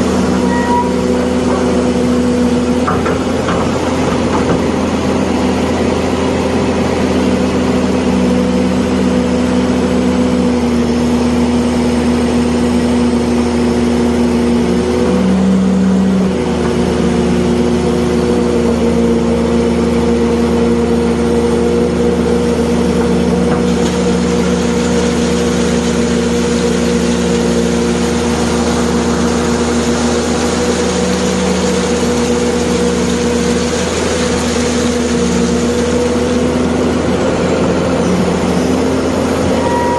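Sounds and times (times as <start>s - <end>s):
excavator engine and hydraulics hum: 0.0s - 39.9s.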